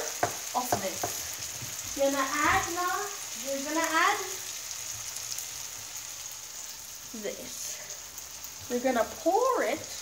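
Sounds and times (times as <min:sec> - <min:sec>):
mushrooms sizzling in pan: 0:00.0 - 0:10.0.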